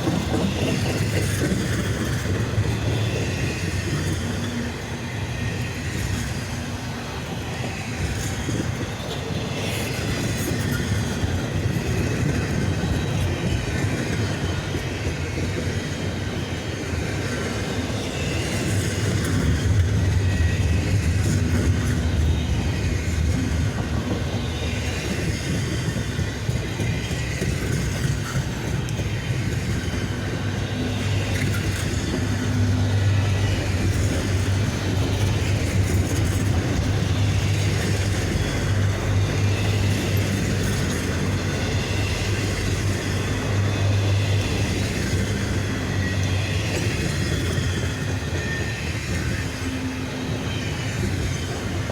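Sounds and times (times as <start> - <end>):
freight train wheels on rails: 0.0 - 51.9.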